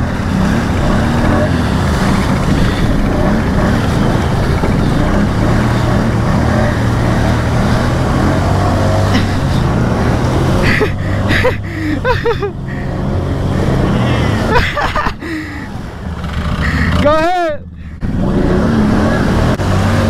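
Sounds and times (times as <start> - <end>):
atv engine running in mud: 0.0 - 20.0.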